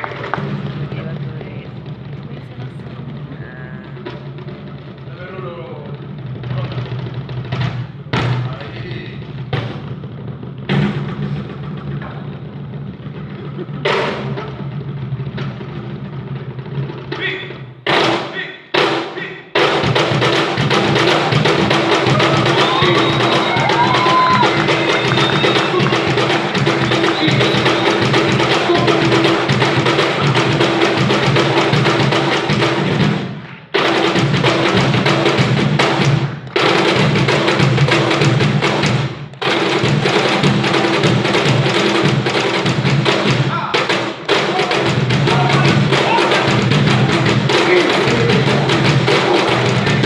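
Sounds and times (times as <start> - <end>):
cajon drumming: 0.0 - 50.0.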